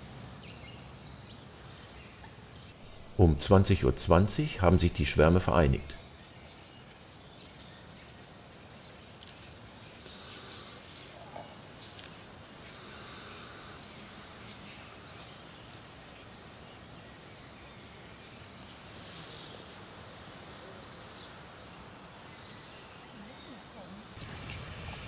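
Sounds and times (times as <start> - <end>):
outdoor hiss: 0.0 - 25.0.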